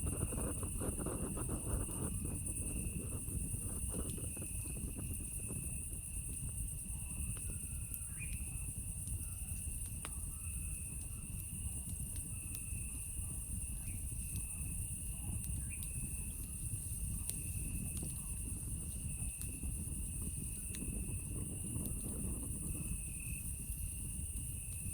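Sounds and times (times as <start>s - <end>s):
campfire crackling and popping: 0.0s - 24.9s
high continuous insect trill: 0.0s - 24.9s
lower insect trill: 0.0s - 24.9s.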